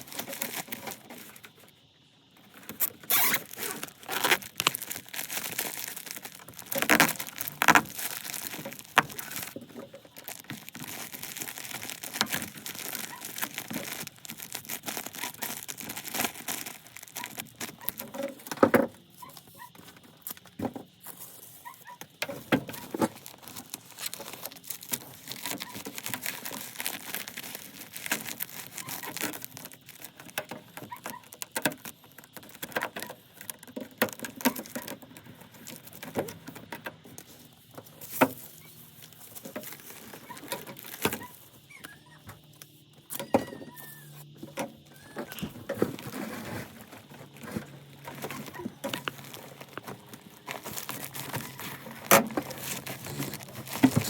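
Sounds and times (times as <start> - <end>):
rustling and crinkling: 0.0 - 54.0.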